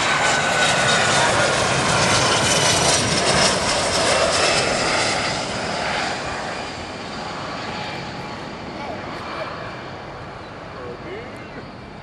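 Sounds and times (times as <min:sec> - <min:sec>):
jet passing overhead: 0:00.0 - 0:12.0.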